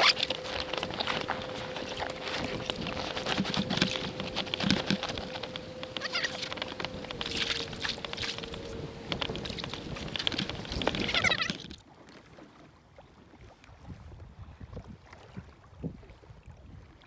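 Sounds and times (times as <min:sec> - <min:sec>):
wind on microphone: 0:00.0 - 0:11.8, 0:13.7 - 0:17.0
water sloshing against kayak hull: 0:00.0 - 0:14.0
small waves lapping: 0:00.0 - 0:17.0.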